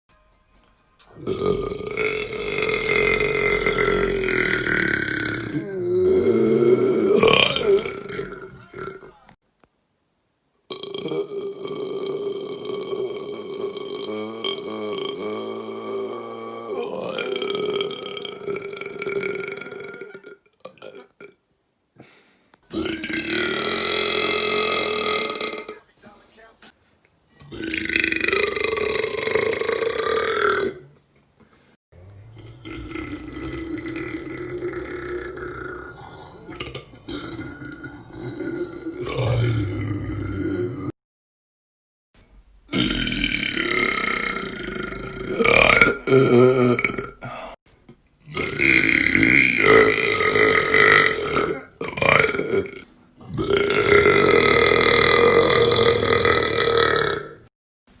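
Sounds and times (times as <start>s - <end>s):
person burping: 1.2s - 9.4s, 10.7s - 21.4s, 22.0s - 25.9s, 27.4s - 31.0s, 32.1s - 41.0s, 42.7s - 47.6s, 48.2s - 57.5s.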